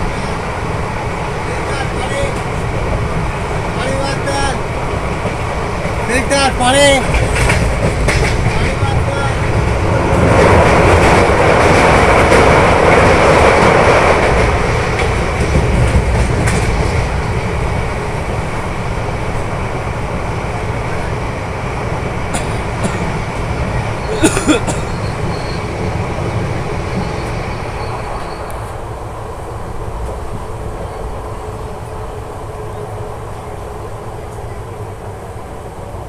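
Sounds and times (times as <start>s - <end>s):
train rattling over bridge: 0.0s - 36.0s
train wheels rumbling on rail: 0.0s - 36.0s.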